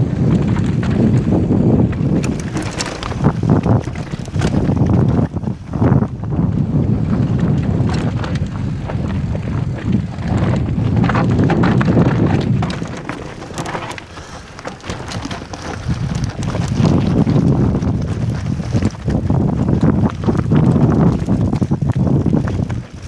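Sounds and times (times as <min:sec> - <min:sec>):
bike rattling: 0:00.0 - 0:23.0
wind rumbling on camera: 0:00.0 - 0:23.0
tyres crunching over stones: 0:00.3 - 0:06.0, 0:07.1 - 0:23.0.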